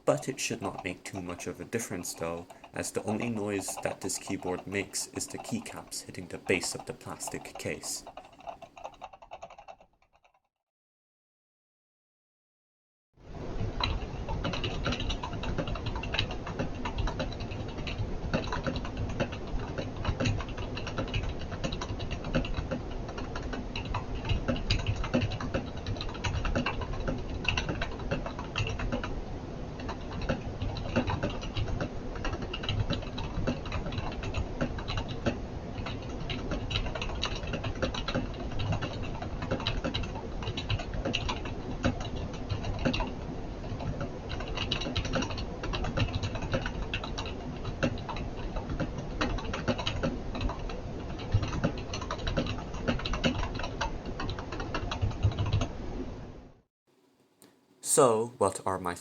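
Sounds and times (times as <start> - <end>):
typing on a keyboard: 0.1 - 10.4, 13.8 - 55.8.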